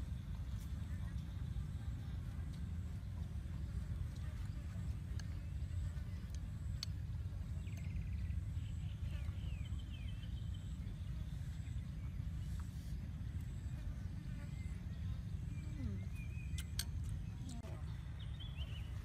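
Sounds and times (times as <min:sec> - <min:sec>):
birds chirping: 0:00.0 - 0:19.0
low outdoor rumble: 0:00.0 - 0:19.0.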